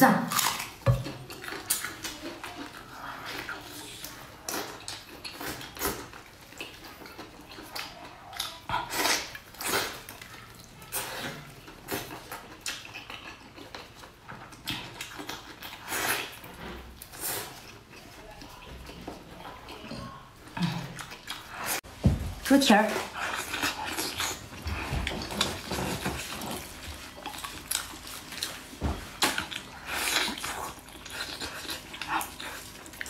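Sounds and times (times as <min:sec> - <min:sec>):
wet chewing and mouth smacks: 0:00.3 - 0:21.8, 0:23.1 - 0:33.0.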